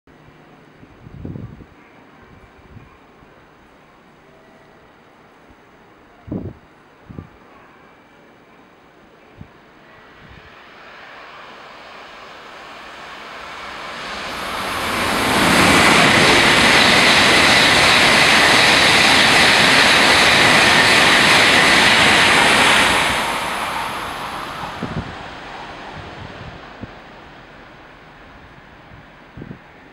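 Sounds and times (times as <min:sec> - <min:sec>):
bullet train passing: 0:01.6 - 0:29.9.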